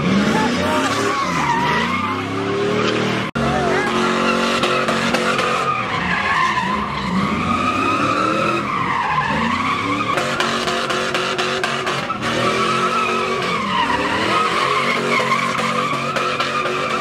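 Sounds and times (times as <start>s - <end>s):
engine revving: 0.0s - 17.0s
tyres squealing: 0.0s - 17.0s.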